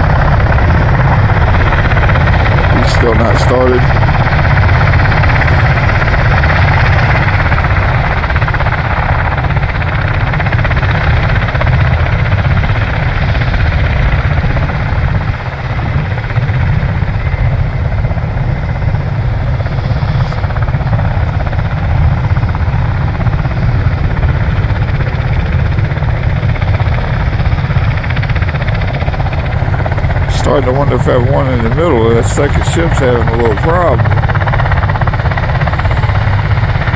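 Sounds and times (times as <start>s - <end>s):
tiltrotor aircraft rumbling: 0.0s - 36.9s.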